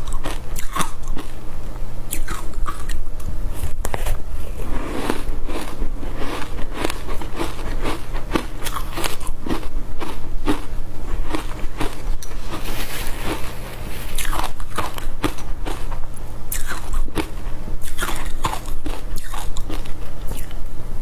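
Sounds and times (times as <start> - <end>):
ice crunching while chewed: 0.0 - 1.4, 2.1 - 3.0, 4.0 - 20.6.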